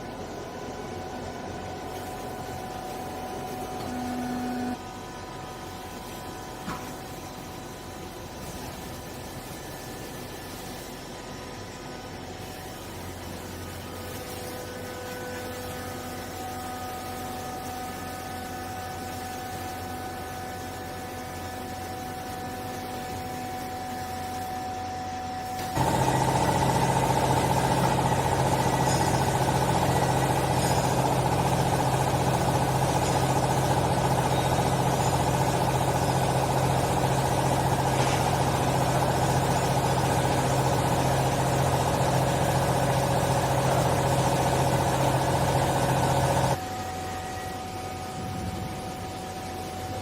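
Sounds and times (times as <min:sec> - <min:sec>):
hydraulic motor and pump whine: 0:00.0 - 0:50.0.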